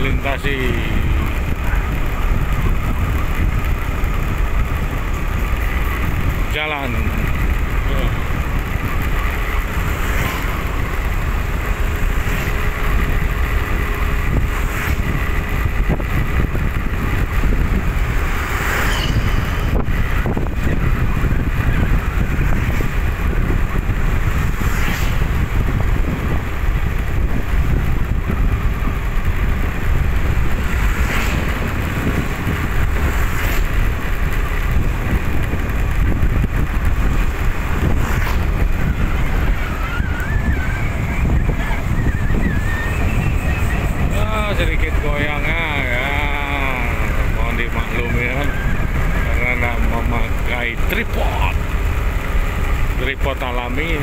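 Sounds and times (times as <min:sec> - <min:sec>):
road noise: 0:00.0 - 0:54.0
vehicles passing: 0:00.0 - 0:54.0
wind rumble on microphone: 0:00.0 - 0:54.0.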